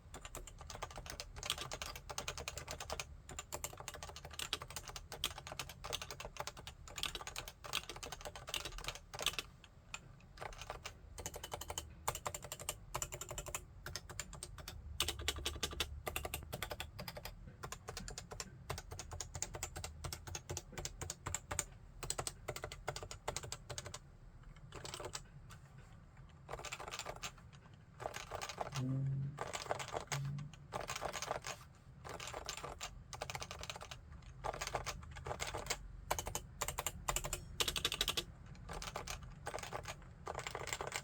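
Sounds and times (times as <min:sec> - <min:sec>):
fast typing on keyboard: 0:00.1 - 0:09.6, 0:10.4 - 0:24.0, 0:24.6 - 0:25.2, 0:26.4 - 0:41.0.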